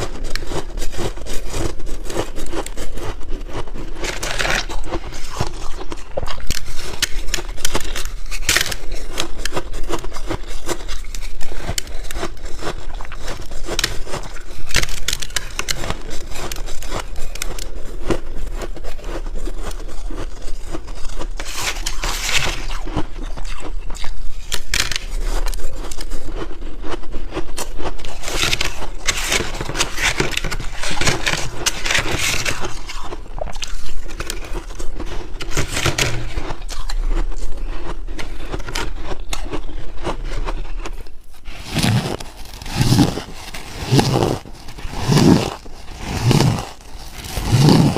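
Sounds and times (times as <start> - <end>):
chewing crunchy ice: 0.0 - 47.9.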